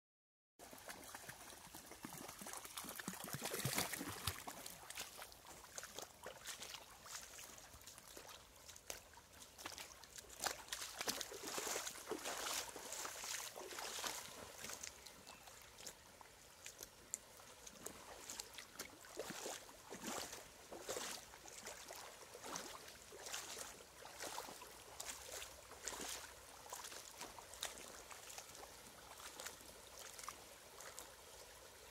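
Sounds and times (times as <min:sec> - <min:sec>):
splashing of wading through water: 0:00.6 - 0:31.9
stream trickling over gravel: 0:00.6 - 0:31.9.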